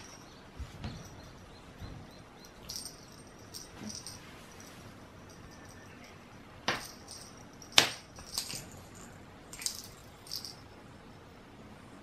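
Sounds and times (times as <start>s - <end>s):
small bell jingling: 0.0s - 1.6s, 2.4s - 10.8s.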